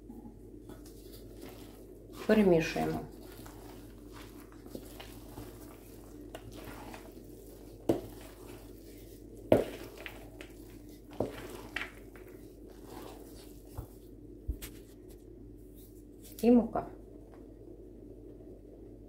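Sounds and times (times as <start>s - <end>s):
wooden spoon stirring dough: 0.3s - 16.6s.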